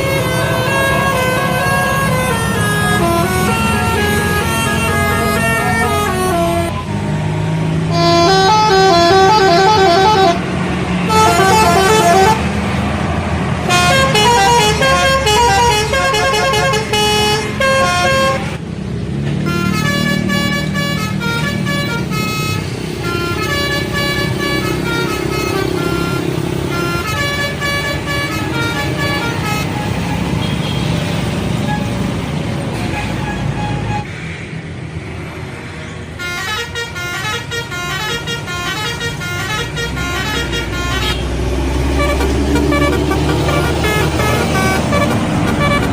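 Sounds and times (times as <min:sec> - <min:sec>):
multi-tone air horns melody: 0:00.0 - 0:06.8, 0:07.9 - 0:12.6, 0:13.6 - 0:18.6, 0:19.4 - 0:30.8, 0:36.2 - 0:45.9
bus engine running: 0:00.0 - 0:45.9.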